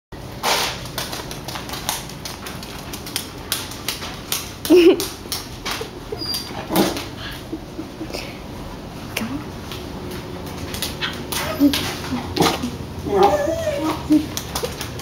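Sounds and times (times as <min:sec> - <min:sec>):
dog paws tapping on tile floor: 0:00.2 - 0:15.0.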